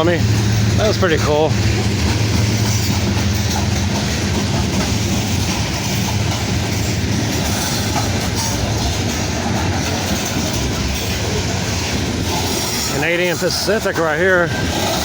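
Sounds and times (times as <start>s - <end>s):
locomotive engine drone: 0.0s - 15.0s
train wheels clacking over rail joints: 0.0s - 15.0s.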